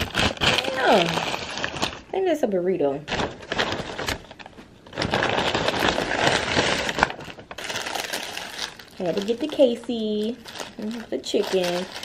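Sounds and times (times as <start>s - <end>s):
paper bag rustling: 0.0s - 2.1s, 3.1s - 12.0s.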